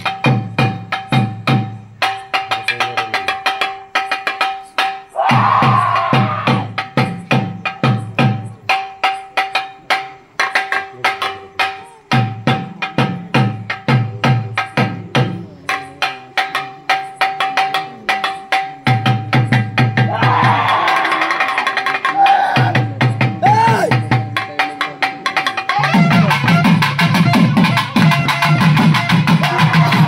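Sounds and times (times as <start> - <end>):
deep drum beats: 0.0 - 30.0.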